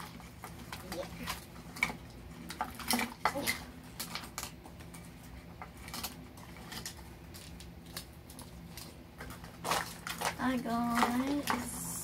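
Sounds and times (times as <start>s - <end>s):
plastic wrappers crinkling: 0.0s - 12.0s.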